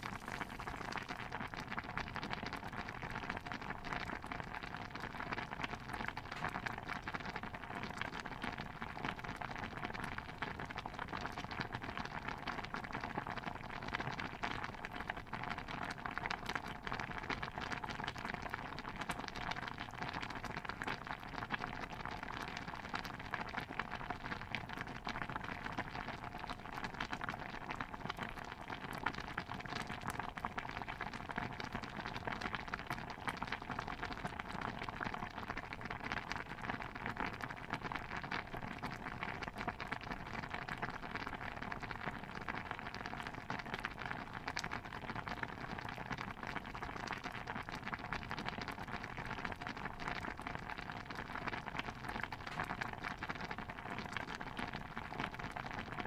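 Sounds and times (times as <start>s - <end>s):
stew bubbling in a pot: 0.0s - 56.0s.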